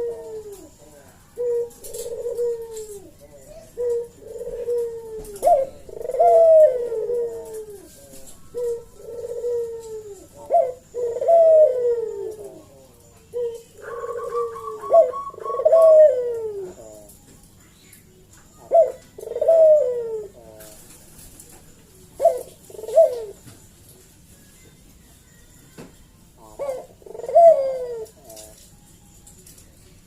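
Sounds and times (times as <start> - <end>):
dove cooing: 0.0 - 17.2, 18.5 - 23.7, 26.4 - 28.8.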